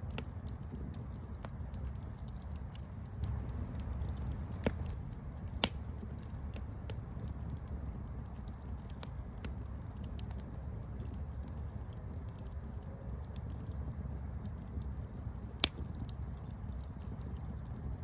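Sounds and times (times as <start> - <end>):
campfire burning and crackling: 0.0 - 18.0.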